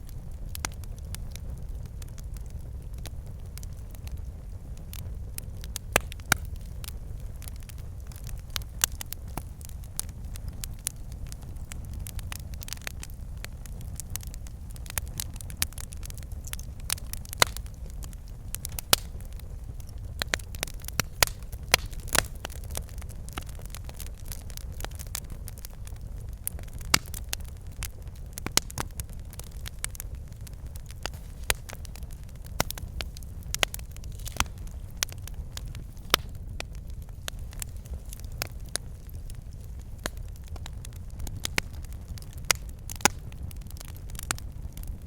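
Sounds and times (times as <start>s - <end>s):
crackles and pops from logs: 0.0s - 45.0s
fire flames rumbling: 0.0s - 45.0s.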